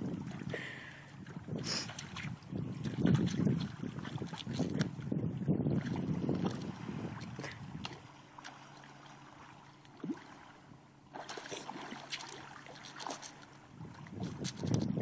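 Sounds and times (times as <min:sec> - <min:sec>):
seawater splashing and trickling: 0:00.0 - 0:15.0.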